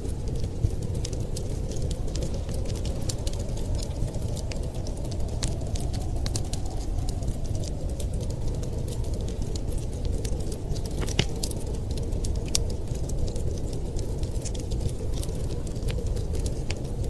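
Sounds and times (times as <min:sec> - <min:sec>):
low rumble of wind: 0:00.0 - 0:17.0
wood fire crackling: 0:00.0 - 0:17.0
sharp pops and snaps: 0:00.3 - 0:17.0.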